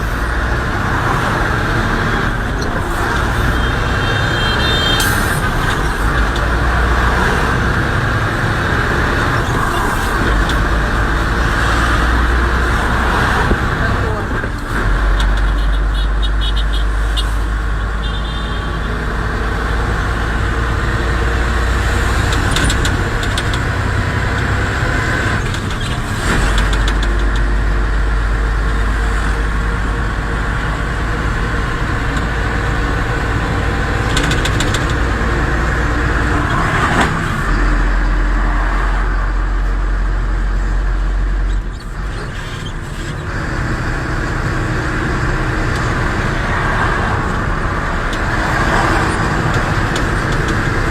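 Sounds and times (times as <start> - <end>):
road noise: 0.0 - 50.9
truck engine rumbling: 0.0 - 50.9.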